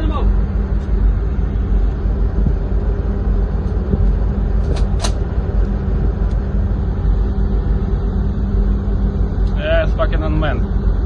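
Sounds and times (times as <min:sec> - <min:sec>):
ship engine running: 0:00.0 - 0:11.0
wind on microphone: 0:00.3 - 0:09.2.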